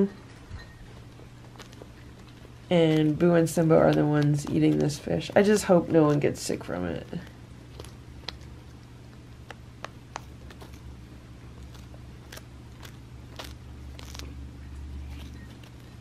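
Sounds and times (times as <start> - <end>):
cat chewing dried fish: 0.8 - 16.0.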